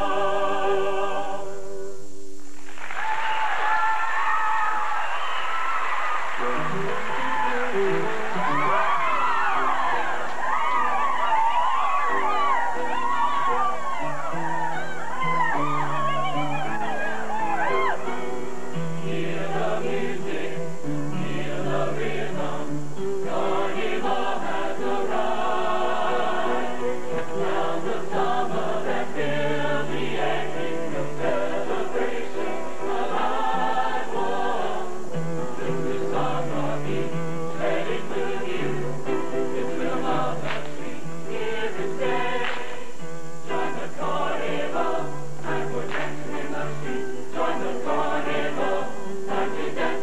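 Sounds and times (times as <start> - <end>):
choir singing in harmony: 0.0 - 2.2, 3.5 - 50.0.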